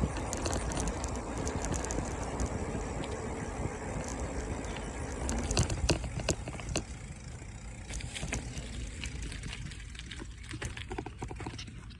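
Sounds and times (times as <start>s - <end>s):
bicycle clicking rattles: 0.0s - 11.9s
wind and road noise: 0.0s - 11.9s.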